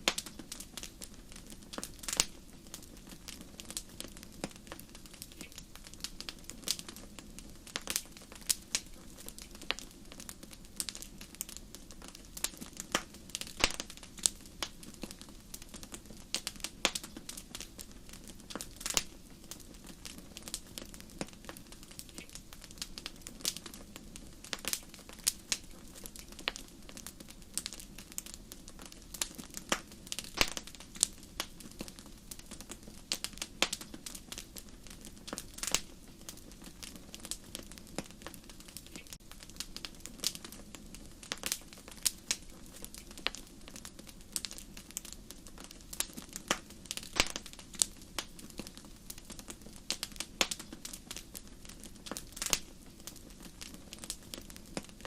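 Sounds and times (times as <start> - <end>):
low rustle of flames: 0.0 - 55.0
wood fire crackling and popping: 0.0 - 55.0.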